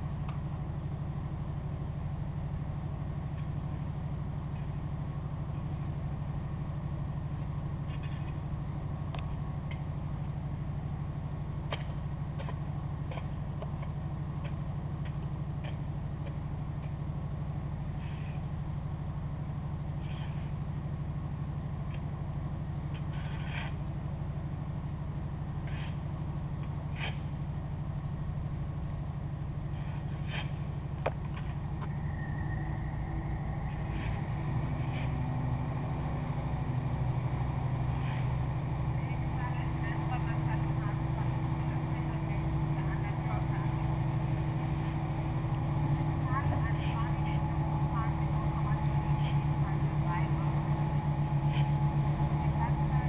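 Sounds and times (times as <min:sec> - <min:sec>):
ferry engines humming: 0:00.0 - 0:53.0.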